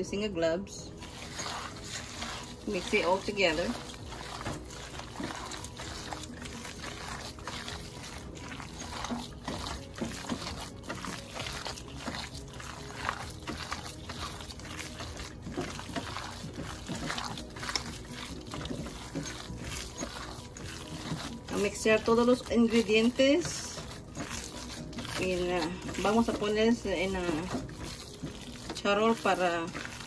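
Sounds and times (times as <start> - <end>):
wet squelching of ground meat: 0.8 - 30.0.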